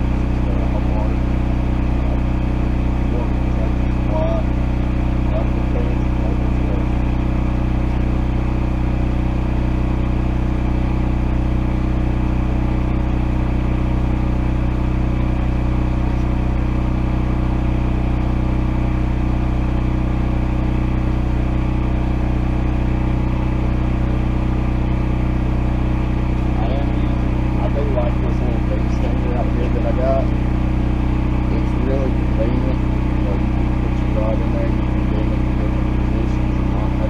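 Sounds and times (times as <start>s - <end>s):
gasoline engine running: 0.0s - 37.0s.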